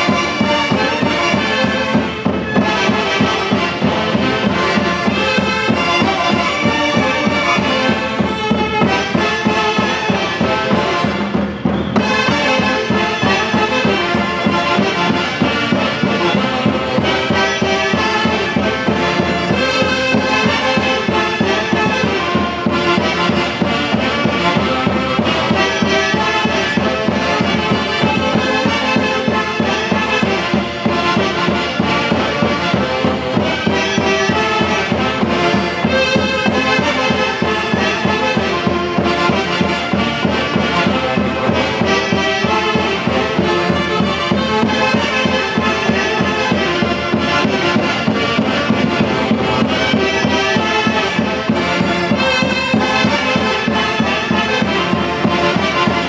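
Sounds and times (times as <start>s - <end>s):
folk band with reeds and harp: 0.0s - 56.0s
steady drum beat: 0.0s - 56.0s.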